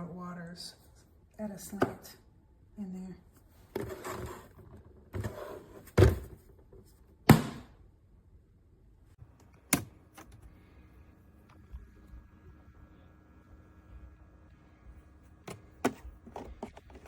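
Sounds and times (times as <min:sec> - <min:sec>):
faint steady hum with tones: 0:00.0 - 0:17.0.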